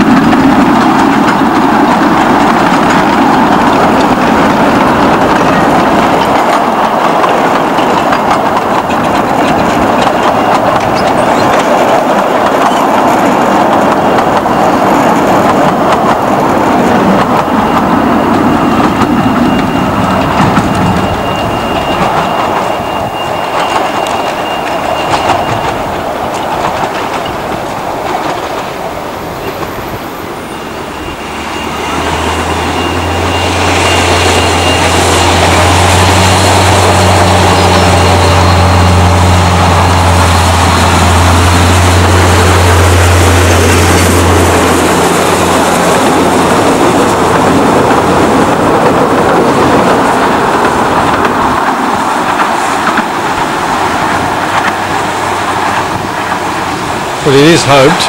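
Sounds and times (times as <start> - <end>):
miniature train running by: 0.0 - 58.0.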